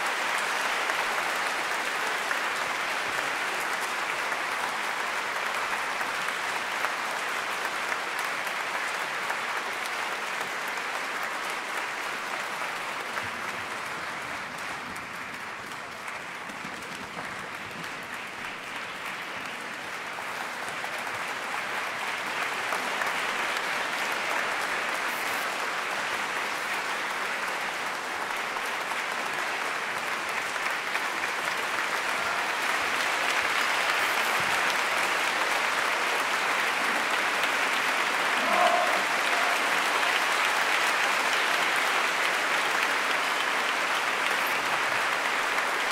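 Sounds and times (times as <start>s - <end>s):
audience applauding: 0.0s - 45.9s.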